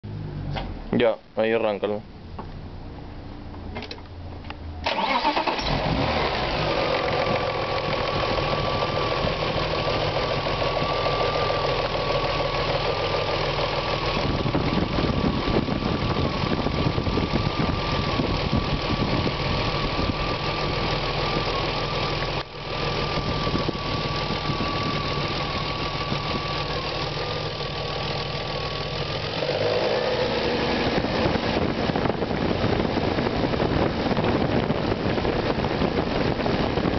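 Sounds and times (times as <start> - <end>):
car engine starting and idling: 2.1 - 36.9
high-pitched engine whine: 4.8 - 36.9.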